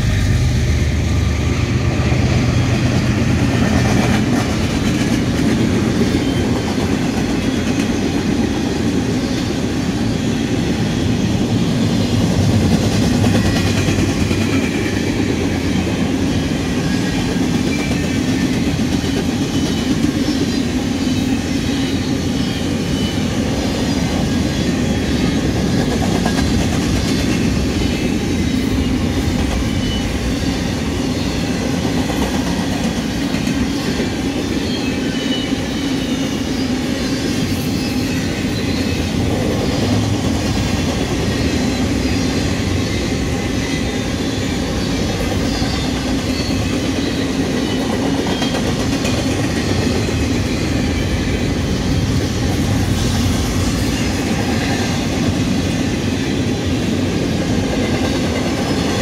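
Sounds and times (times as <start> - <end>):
train wheels rumbling on rail: 0.0 - 59.0
clickety-clack over rail joints: 1.4 - 35.3, 37.2 - 59.0.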